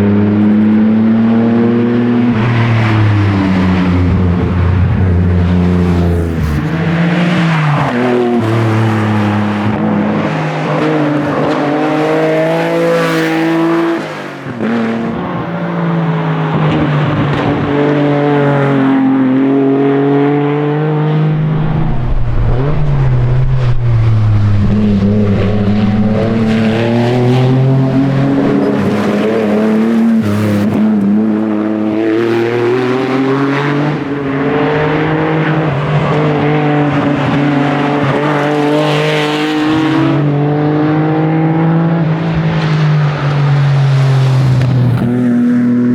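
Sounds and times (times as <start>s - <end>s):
rally car engine revving hard: 0.0s - 45.9s.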